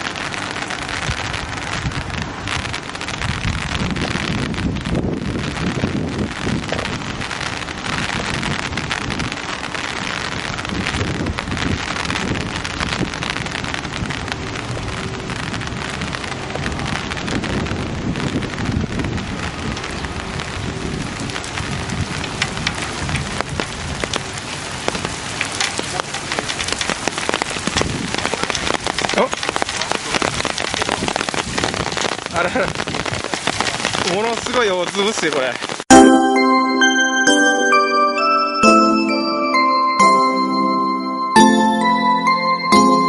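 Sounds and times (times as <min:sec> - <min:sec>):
heavy rain on water: 0:00.0 - 0:43.0.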